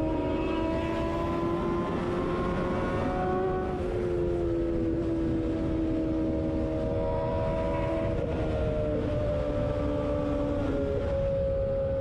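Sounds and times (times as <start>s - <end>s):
motorcycle engine at high revs: 0.0s - 12.0s
wind and road rumble: 0.0s - 12.0s.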